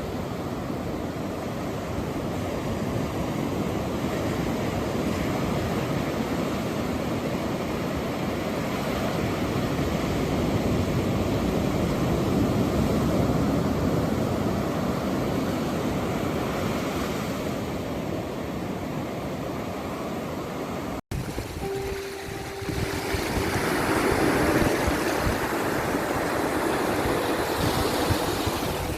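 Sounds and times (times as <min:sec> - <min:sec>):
ocean surf washing: 0:00.0 - 0:28.9.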